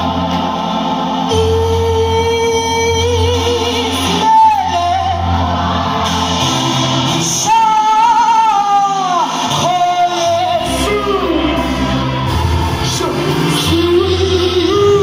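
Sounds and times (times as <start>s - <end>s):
vocal group singing: 0.0s - 15.0s.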